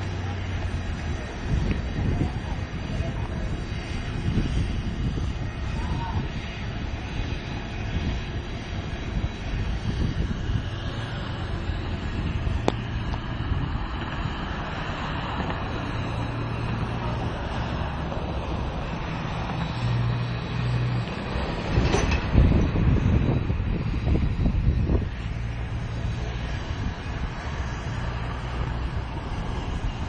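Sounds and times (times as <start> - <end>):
moving train rumble: 0.0 - 30.0.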